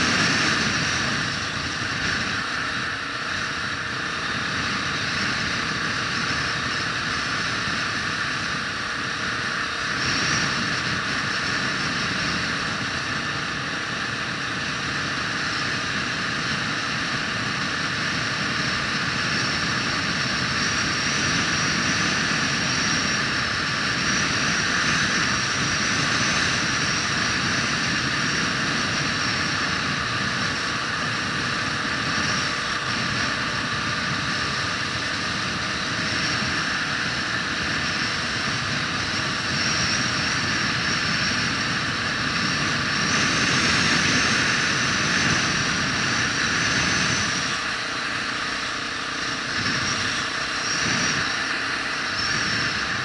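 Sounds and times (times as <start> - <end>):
vehicle running drone: 0.0 - 53.0.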